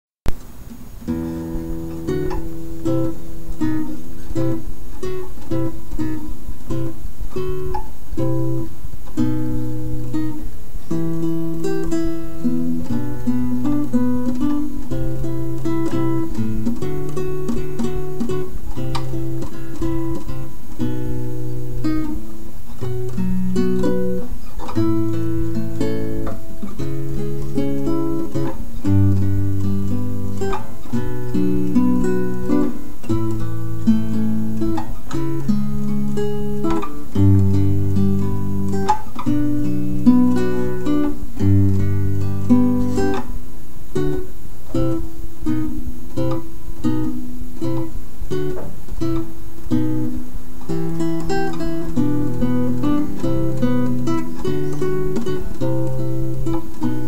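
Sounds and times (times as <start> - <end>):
picked guitar music: 0.3 - 57.0.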